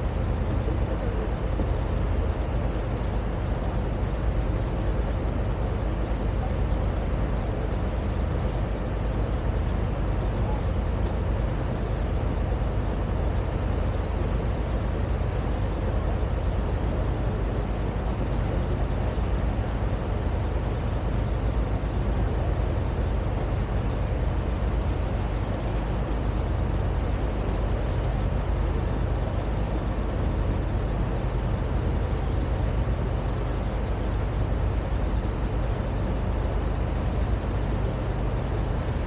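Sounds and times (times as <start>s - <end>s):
boat engine drone: 0.0s - 39.0s
wind: 0.0s - 39.0s.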